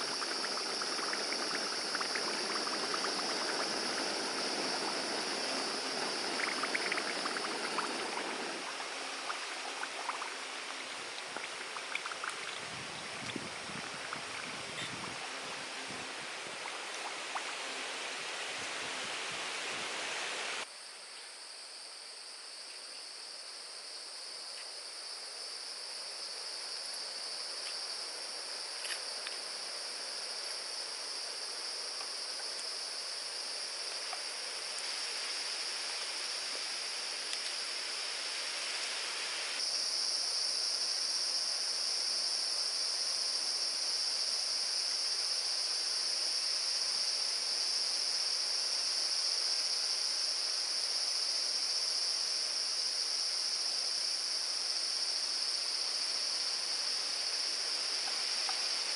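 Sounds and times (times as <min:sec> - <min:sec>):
insects buzzing chorus: 0:00.0 - 0:58.9.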